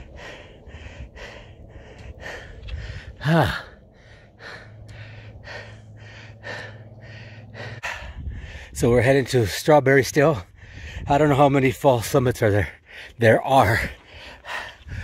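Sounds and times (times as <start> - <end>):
person panting hard: 0.0 - 9.0, 10.3 - 11.4, 12.6 - 15.0.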